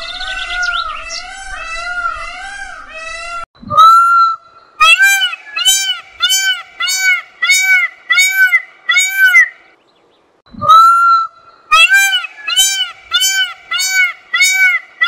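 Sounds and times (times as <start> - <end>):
peacock calling: 0.0 - 9.8, 10.6 - 15.0.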